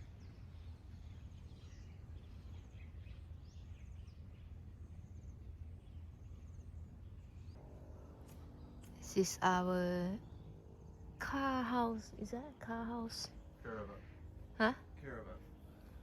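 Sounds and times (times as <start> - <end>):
bird chirps and trills: 0.0 - 14.3
steady low rumble: 0.0 - 16.0.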